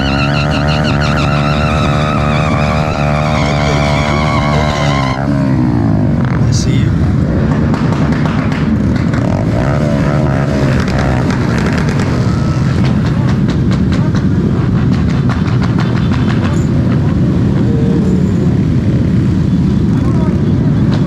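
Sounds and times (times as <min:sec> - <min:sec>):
small engines droning: 0:00.0 - 0:21.0.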